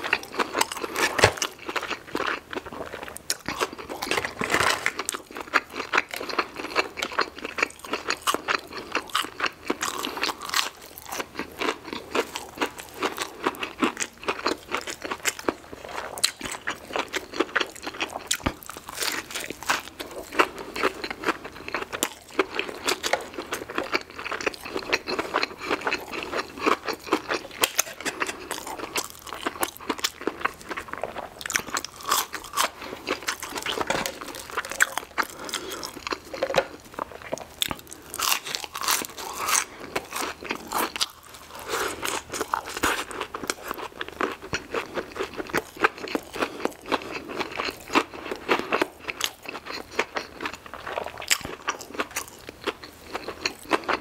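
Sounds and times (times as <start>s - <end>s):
crunching and chewing food: 0.0s - 54.0s.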